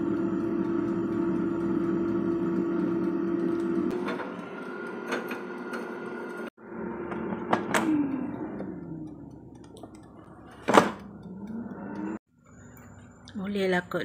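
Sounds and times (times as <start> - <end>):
air fryer fan humming: 0.0 - 12.4.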